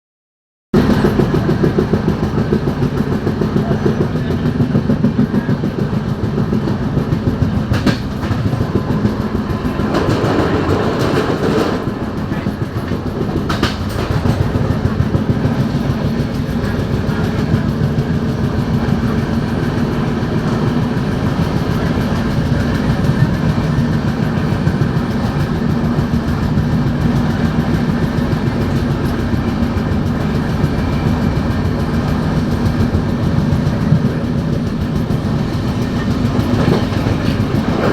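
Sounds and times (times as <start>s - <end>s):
train rumbling along track: 0.8s - 37.9s
wheels rattling: 0.8s - 37.9s.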